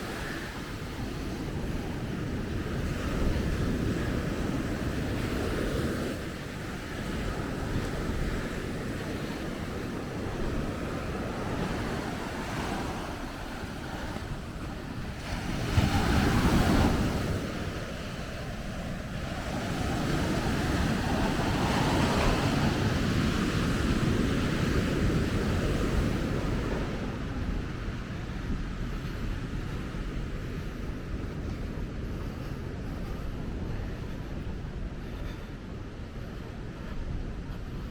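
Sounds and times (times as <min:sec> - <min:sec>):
ocean waves washing: 0:00.0 - 0:37.9.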